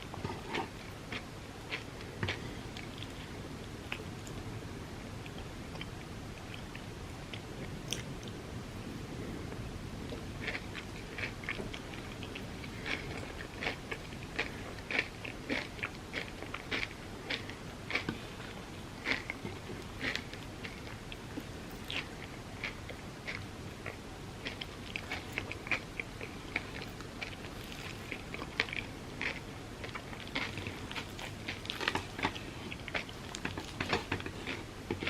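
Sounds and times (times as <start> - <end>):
close chewing with crunches: 0.0 - 4.5, 10.1 - 35.0.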